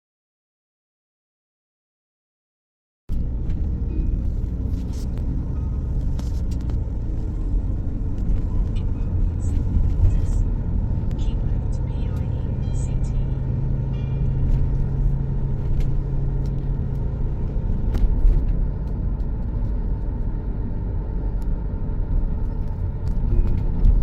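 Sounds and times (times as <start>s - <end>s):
vehicle rumble: 3.1s - 24.0s.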